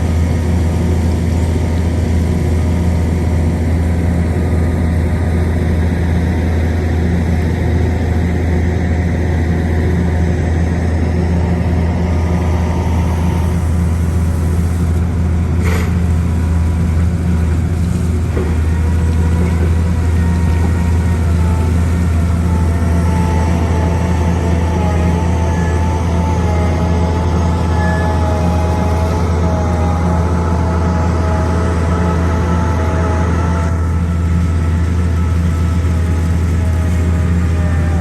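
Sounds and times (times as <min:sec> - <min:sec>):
heavy engine droning: 0:00.0 - 0:38.0.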